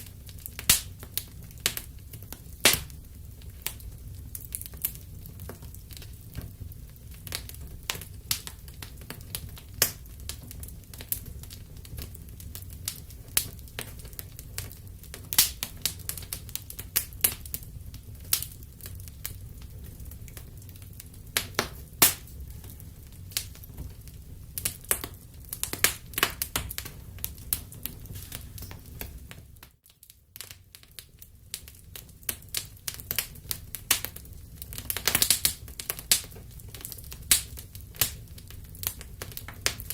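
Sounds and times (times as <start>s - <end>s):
fire pops and snaps: 0.0s - 39.9s
low rumble of burning: 0.0s - 39.9s
wood fire crackling: 0.0s - 39.9s.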